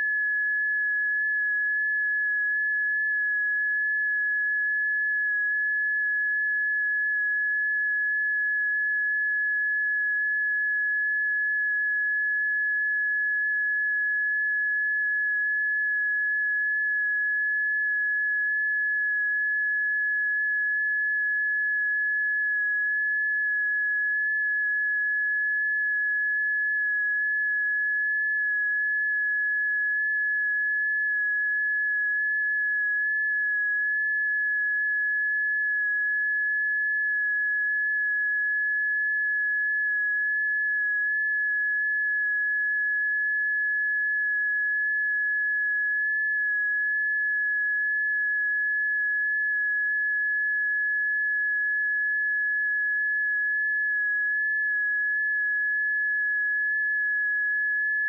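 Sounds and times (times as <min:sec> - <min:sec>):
high steady sine tone: 0:00.0 - 0:58.0.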